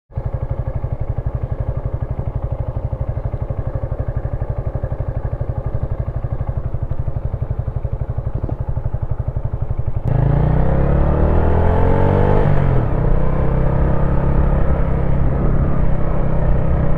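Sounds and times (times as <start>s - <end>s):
motorcycle engine: 0.1s - 16.9s.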